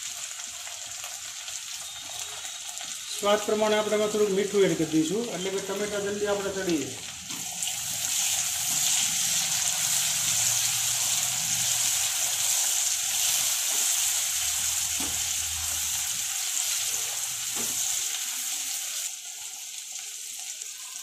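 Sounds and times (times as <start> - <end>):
onions and tomatoes sizzling in oil: 0.0 - 21.0.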